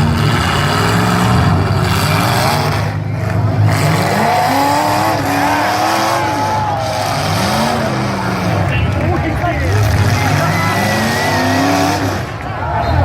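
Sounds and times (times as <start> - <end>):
car engines revving: 0.0 - 13.0
low engine rumble: 0.0 - 13.0.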